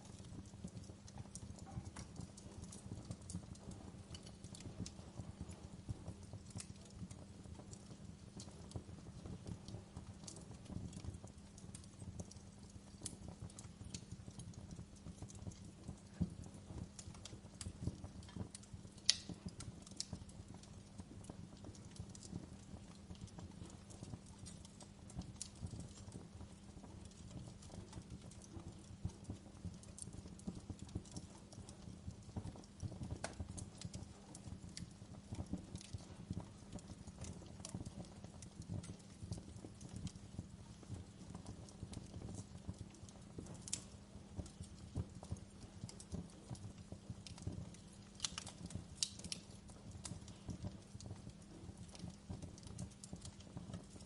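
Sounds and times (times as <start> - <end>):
low steady fire rumble: 0.0 - 54.0
wood fire crackling and popping: 0.0 - 54.0.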